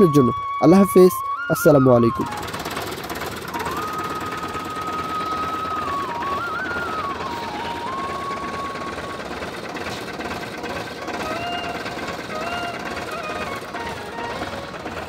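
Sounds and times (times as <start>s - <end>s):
high tone drifting: 0.0s - 15.0s
tractor diesel engine running: 0.0s - 15.0s.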